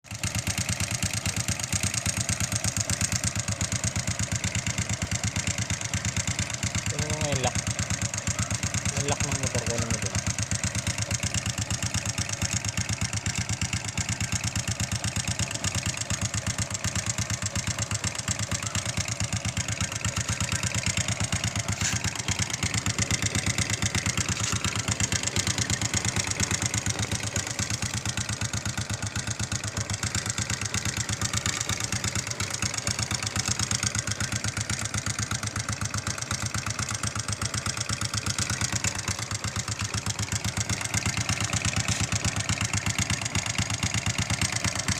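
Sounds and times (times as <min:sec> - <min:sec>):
engine knocking: 0:00.0 - 0:44.9
motorcycle engine idling: 0:00.0 - 0:44.9.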